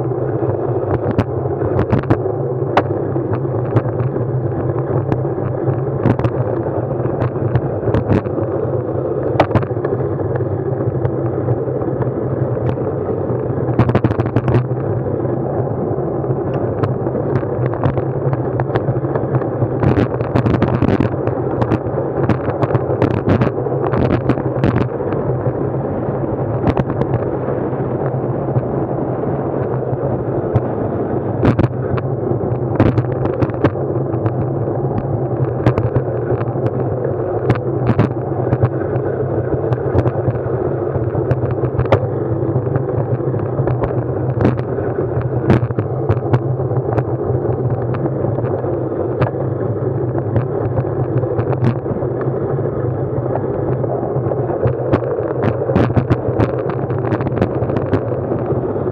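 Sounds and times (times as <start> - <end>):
constant low hum: 0.0 - 58.9
wind and road noise: 0.0 - 58.9.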